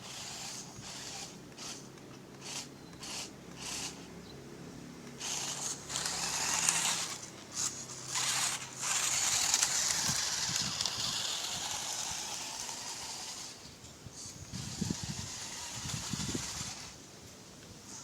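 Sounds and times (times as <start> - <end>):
toy motor and gears whirring: 0.0 - 4.2, 5.0 - 17.0.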